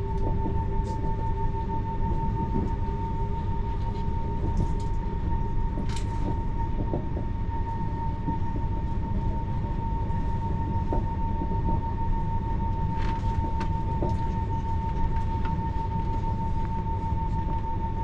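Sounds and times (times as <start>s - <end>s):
train rumbling with high whine: 0.0s - 18.0s.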